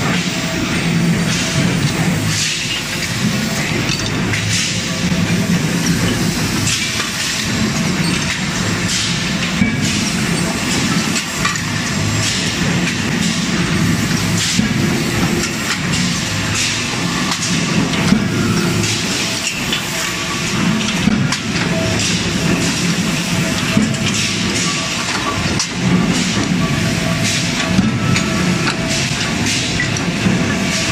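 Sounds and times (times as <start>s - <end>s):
industrial machinery hum: 0.0s - 30.9s.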